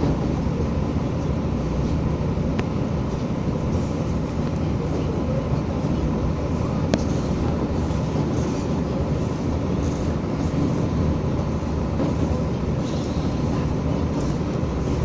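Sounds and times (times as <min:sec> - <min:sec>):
railcar wheels rumbling on track: 0:00.0 - 0:15.0.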